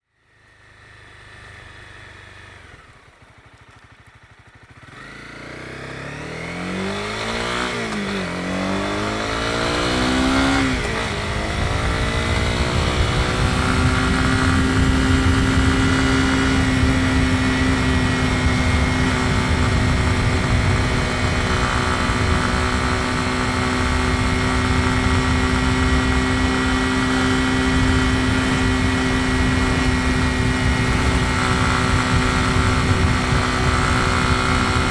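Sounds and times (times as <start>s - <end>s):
motorcycle engine: 0.2s - 34.9s.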